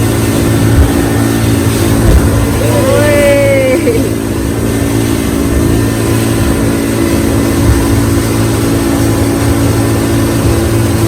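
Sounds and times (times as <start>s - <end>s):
boat engine running: 0.0s - 11.0s
constant rushing noise: 0.0s - 11.0s.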